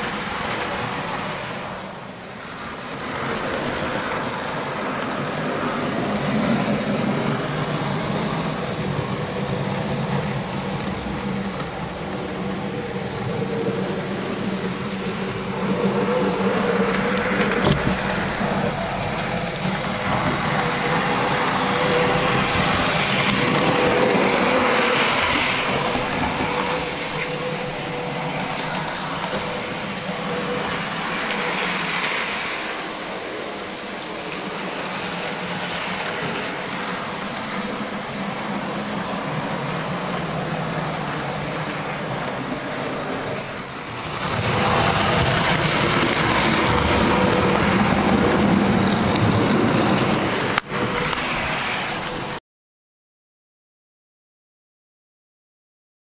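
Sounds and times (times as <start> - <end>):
model train wheels rattling: 2.8 - 51.3.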